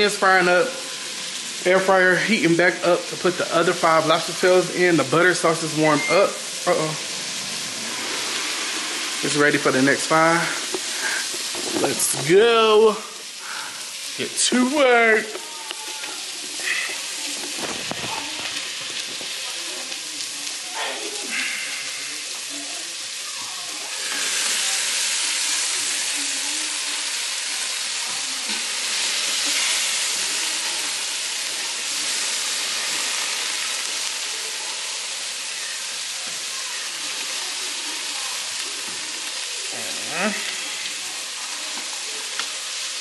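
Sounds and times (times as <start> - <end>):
onions sizzling in a pan: 0.0 - 43.0.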